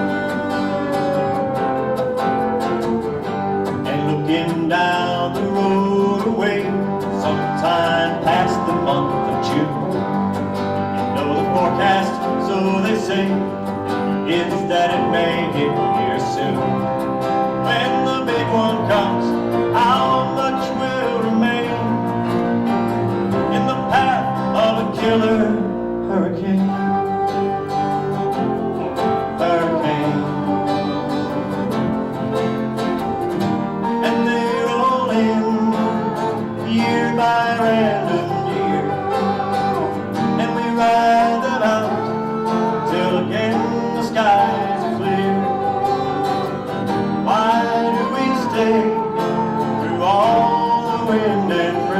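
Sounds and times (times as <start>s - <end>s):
sliding melody line: 0.0s - 51.9s
strummed acoustic guitar chords: 0.0s - 51.9s.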